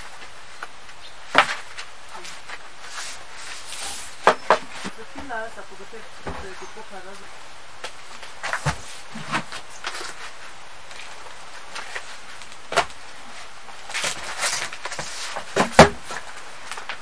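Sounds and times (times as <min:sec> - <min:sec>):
rustling: 0:00.0 - 0:17.0
steady background hiss: 0:00.0 - 0:17.0.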